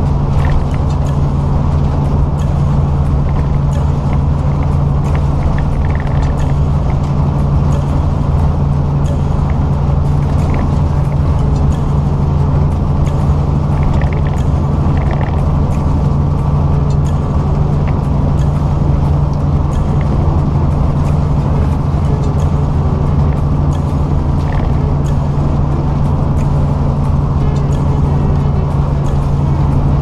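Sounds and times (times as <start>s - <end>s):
truck engine and road drone: 0.0s - 30.0s.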